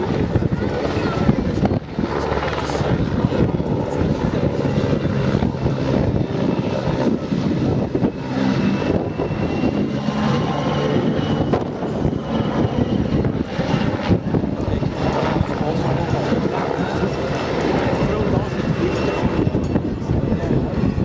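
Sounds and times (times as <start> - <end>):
helicopter rotor throb: 0.0 - 21.0
high turbine whine: 0.0 - 21.0.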